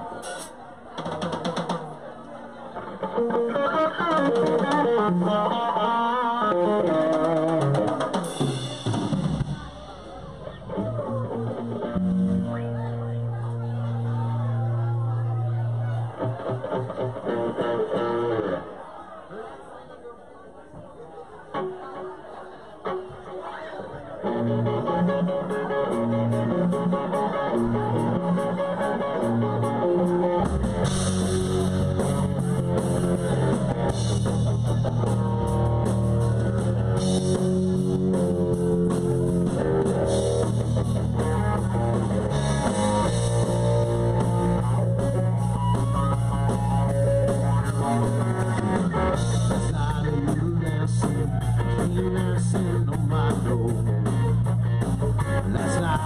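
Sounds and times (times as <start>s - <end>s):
rock and roll music: 2.9s - 18.7s, 24.2s - 56.0s.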